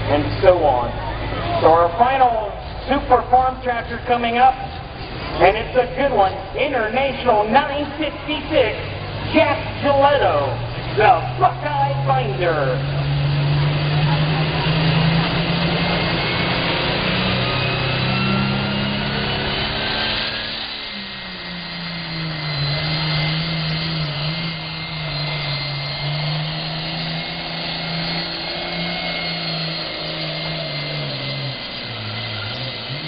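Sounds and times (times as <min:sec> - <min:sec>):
high whine: 0:00.0 - 0:33.0.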